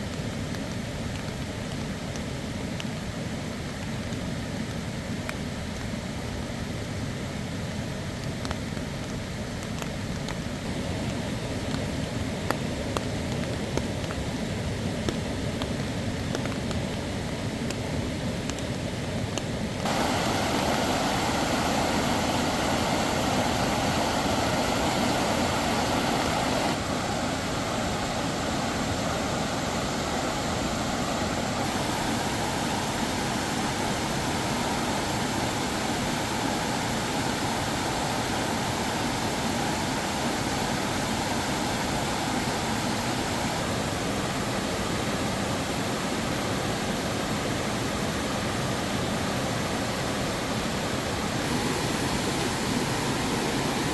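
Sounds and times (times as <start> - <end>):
mountain stream rushing: 8.0 - 53.9.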